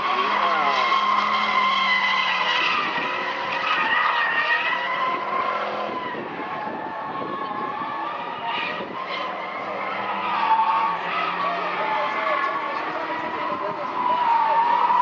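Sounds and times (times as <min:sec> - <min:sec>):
car engine at high revs: 0:00.0 - 0:15.0
tyres squealing: 0:00.0 - 0:15.0.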